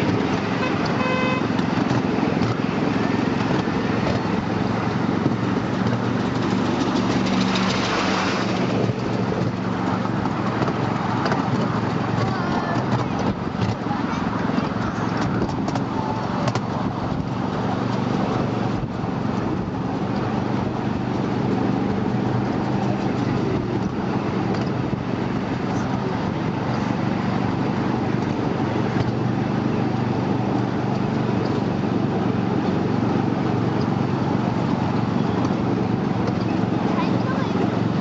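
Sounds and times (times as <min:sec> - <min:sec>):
train rumbling along track: 0:00.0 - 0:38.0.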